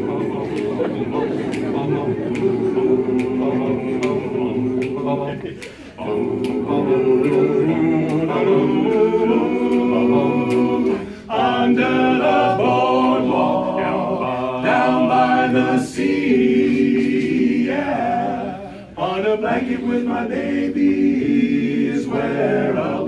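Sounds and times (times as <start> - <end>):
male voices singing in harmony: 0.0 - 23.0.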